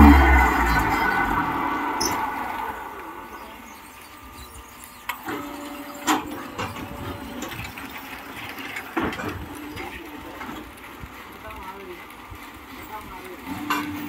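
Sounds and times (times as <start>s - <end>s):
machine humming: 0.0s - 14.0s.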